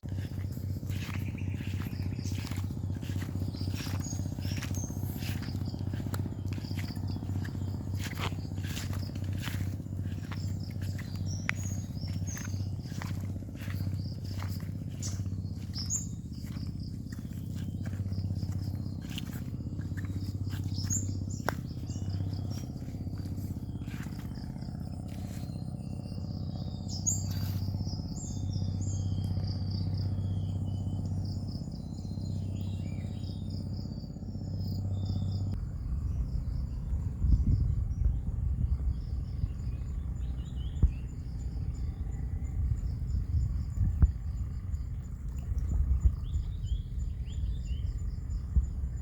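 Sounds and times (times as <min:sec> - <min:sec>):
birds chirping: 0:00.0 - 0:49.0
insects trilling: 0:00.0 - 0:49.0
low steady hum: 0:00.0 - 0:49.0
rough low rumble: 0:00.0 - 0:49.0.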